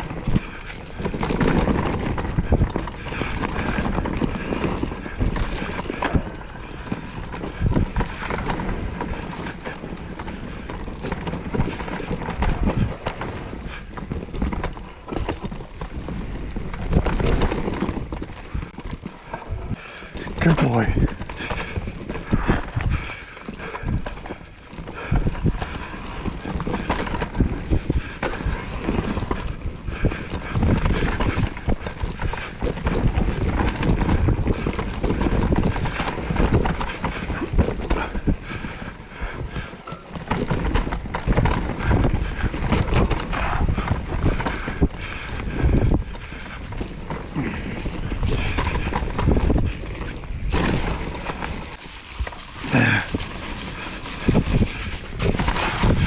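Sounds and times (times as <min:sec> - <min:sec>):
bike knocking and rattling: 0:00.0 - 0:19.5, 0:21.0 - 0:56.0
wind buffeting microphone: 0:00.0 - 0:19.8, 0:20.4 - 0:56.0.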